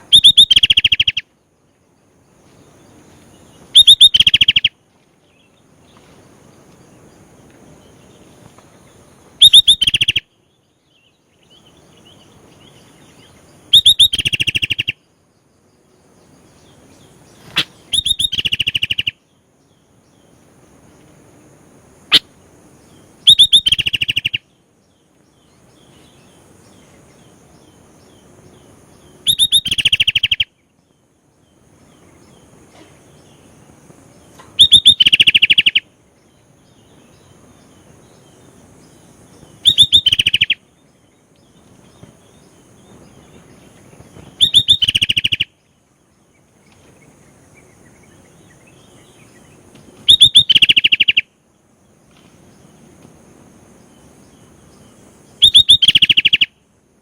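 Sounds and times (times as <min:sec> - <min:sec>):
bird singing rattling notes: 0:00.0 - 0:01.2, 0:02.7 - 0:06.0, 0:06.8 - 0:20.4, 0:22.1 - 0:51.3, 0:53.8 - 0:56.5
faint background hum: 0:00.0 - 0:57.0.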